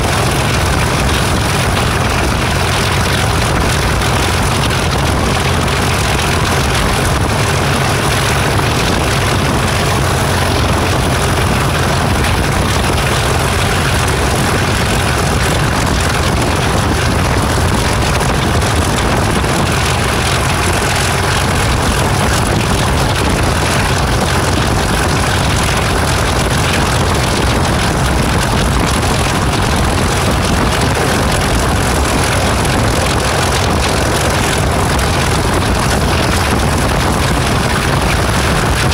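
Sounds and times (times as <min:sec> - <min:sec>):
diesel locomotive engine rumbling: 0:00.0 - 0:38.9.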